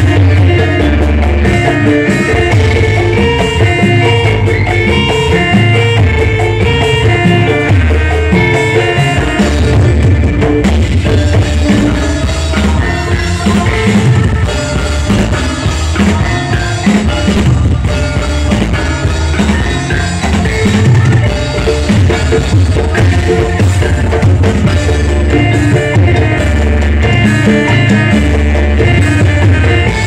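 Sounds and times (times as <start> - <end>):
drum kit beat: 0.0 - 30.0
heavy bass: 0.0 - 30.0
live band music over pa: 0.0 - 30.0.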